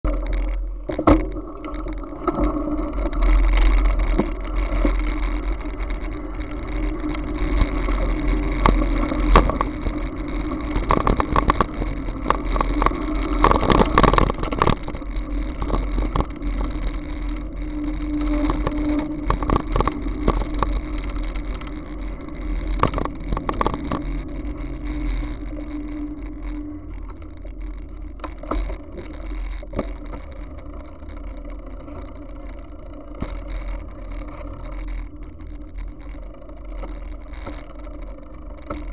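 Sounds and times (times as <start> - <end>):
bicycle rattling over gravel: 0.0 - 38.9.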